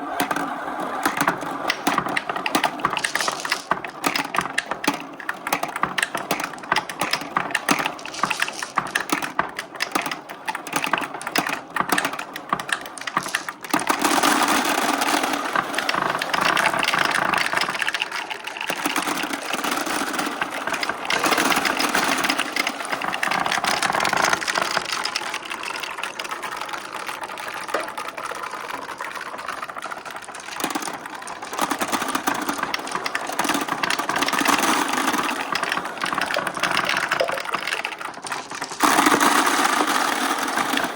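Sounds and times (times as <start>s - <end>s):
marbles clattering in marble run: 0.1s - 40.9s.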